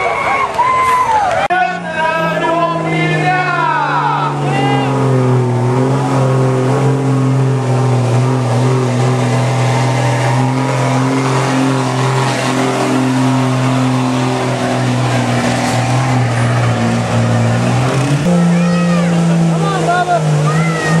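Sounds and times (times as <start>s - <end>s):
diesel truck engine at high revs: 1.4s - 21.0s.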